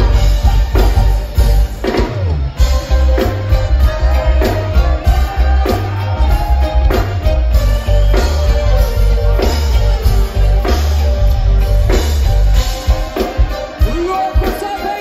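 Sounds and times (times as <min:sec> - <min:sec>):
live rock band through speakers: 0:00.0 - 0:15.0.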